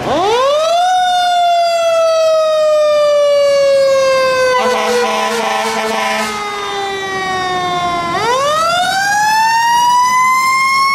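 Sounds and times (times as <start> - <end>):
mechanical siren winding down: 0.0 - 10.9.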